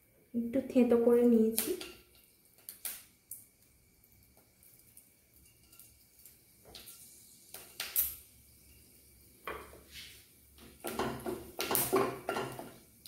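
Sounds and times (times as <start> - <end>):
spices frying in oil: 0.3 - 13.0.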